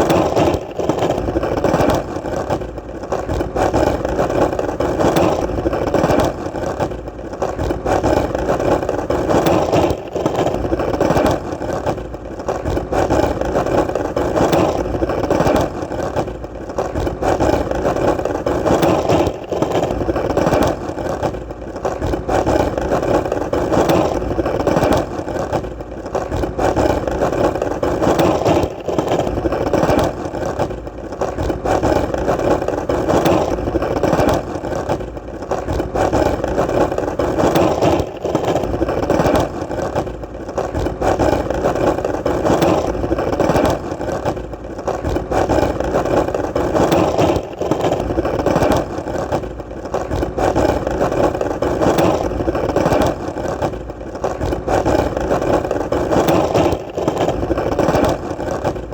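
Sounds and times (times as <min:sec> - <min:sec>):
skateboard wheels rolling on pavement: 0:00.0 - 0:58.9
wheels clicking over cracks: 0:00.0 - 0:58.9.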